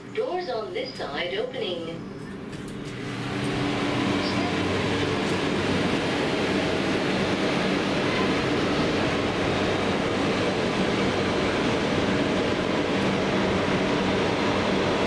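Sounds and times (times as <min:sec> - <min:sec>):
station platform mechanical hum: 0:00.0 - 0:15.0.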